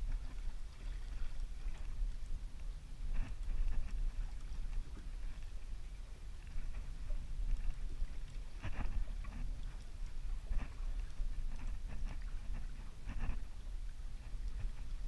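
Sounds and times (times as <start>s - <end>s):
water slapping against boat hull: 0.0s - 5.7s, 6.4s - 15.0s.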